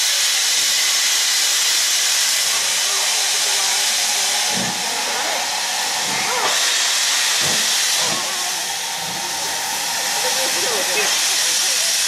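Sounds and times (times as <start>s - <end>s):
steam hissing: 0.0s - 12.0s
steam locomotive exhaust chuffs: 0.0s - 12.0s.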